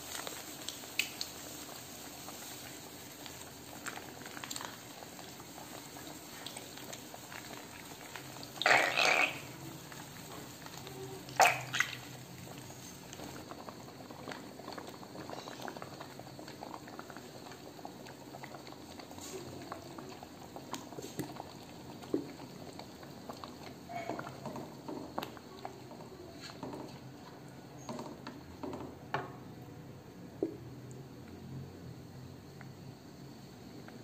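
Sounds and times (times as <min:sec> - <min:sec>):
sauce bubbling in a wok: 0:00.0 - 0:34.0.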